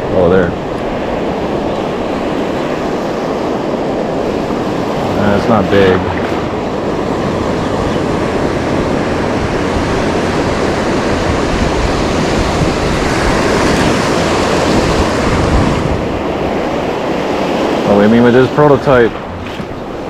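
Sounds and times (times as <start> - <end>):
ocean surf washing on shore: 0.0 - 20.0
wind on microphone: 0.0 - 20.0.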